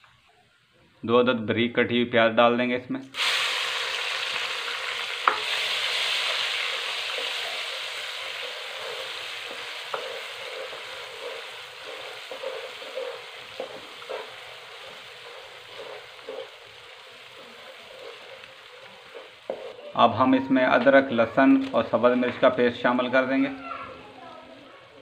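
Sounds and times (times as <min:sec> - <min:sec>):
onions sizzling in hot fat: 0:03.1 - 0:25.0.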